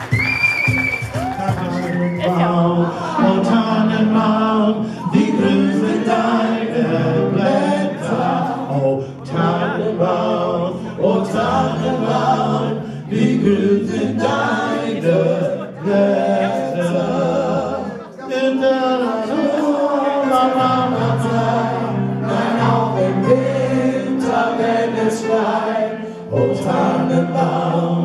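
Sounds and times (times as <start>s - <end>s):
group singing gospel: 2.2s - 28.0s.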